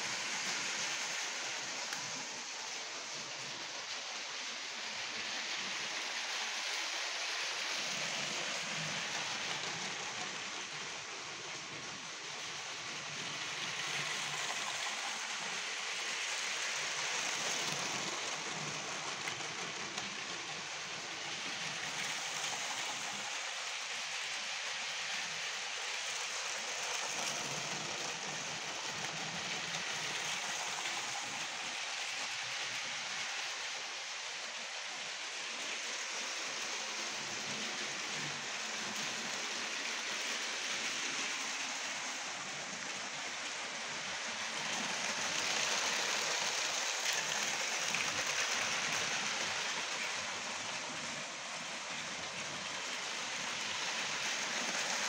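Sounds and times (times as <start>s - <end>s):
toy train motor whirring: 0.0s - 55.0s.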